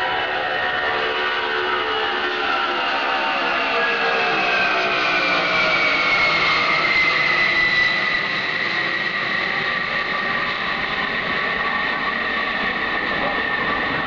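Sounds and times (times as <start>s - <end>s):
jet engines roaring and whining: 0.0s - 14.0s.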